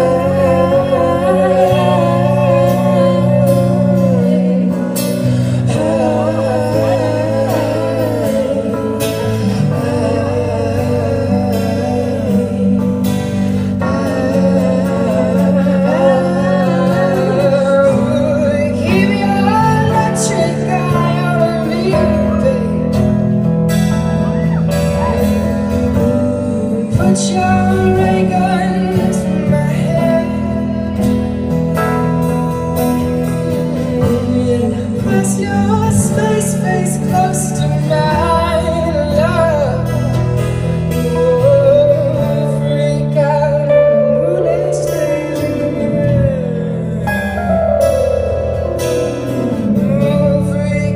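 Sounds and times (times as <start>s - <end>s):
acoustic guitars strumming: 0.0s - 50.9s
keyboard playing: 0.0s - 50.9s
person singing lead vocal: 0.0s - 50.9s.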